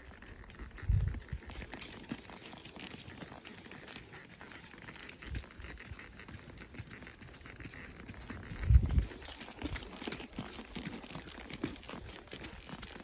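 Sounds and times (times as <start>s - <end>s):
hooves crunching on dry ground: 0.0s - 13.0s.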